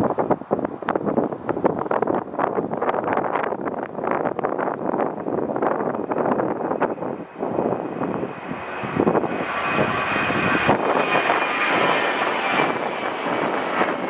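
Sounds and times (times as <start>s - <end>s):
airliner engines roaring: 0.0s - 14.0s
wind on microphone: 0.0s - 14.0s.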